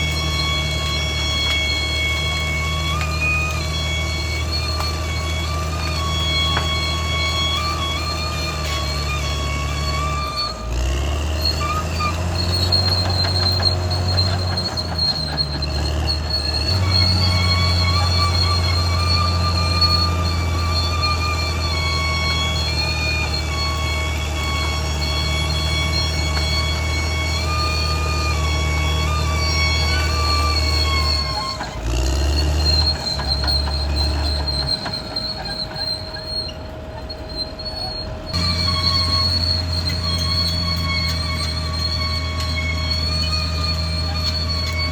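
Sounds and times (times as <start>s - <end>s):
bulldozer diesel engine: 0.0s - 44.9s
steel tracks squealing: 0.0s - 44.9s.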